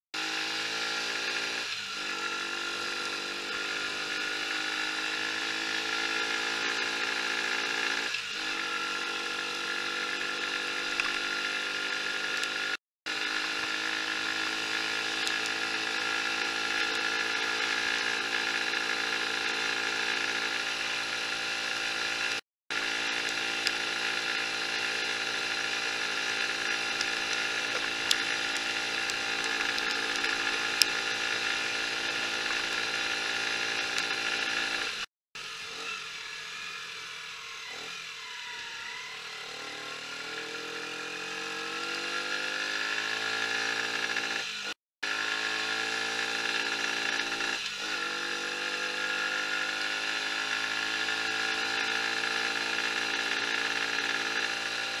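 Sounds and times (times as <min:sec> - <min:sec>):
motorcycle engine accelerating: 0:00.2 - 0:35.1, 0:39.2 - 0:55.0.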